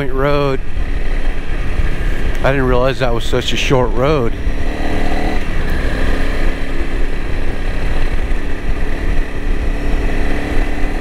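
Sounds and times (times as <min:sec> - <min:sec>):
motorcycle engine running: 0:00.0 - 0:11.0
wind rumbling on microphone: 0:00.0 - 0:11.0.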